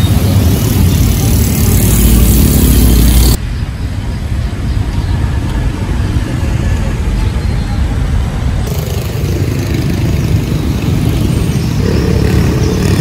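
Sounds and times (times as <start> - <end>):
traffic hum: 0.0 - 13.0
vehicle engine rumbling: 0.0 - 13.0.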